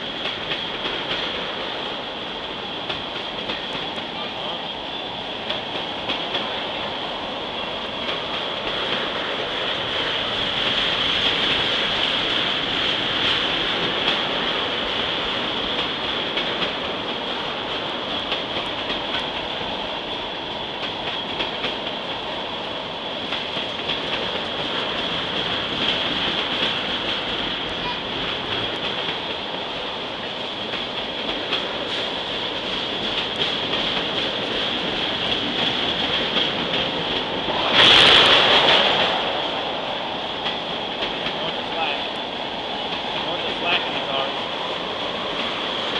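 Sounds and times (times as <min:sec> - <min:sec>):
train wheels rushing on rail: 0:00.0 - 0:45.9.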